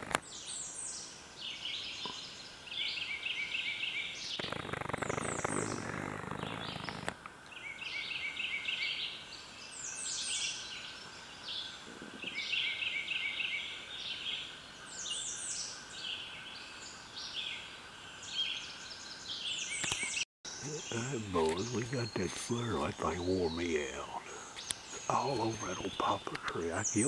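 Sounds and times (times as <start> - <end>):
songbirds singing: 0.2 - 27.0.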